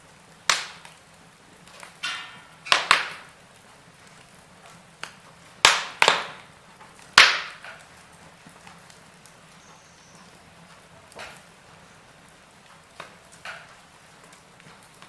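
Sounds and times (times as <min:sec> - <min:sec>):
wood fire crackling: 0:00.0 - 0:15.0
sharp pops of burning wood: 0:00.2 - 0:15.0.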